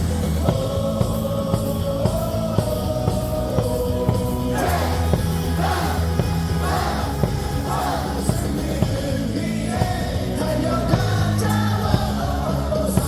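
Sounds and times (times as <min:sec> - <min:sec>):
loud amplified music with beat: 0:00.0 - 0:13.0
stadium crowd singing: 0:00.0 - 0:13.0.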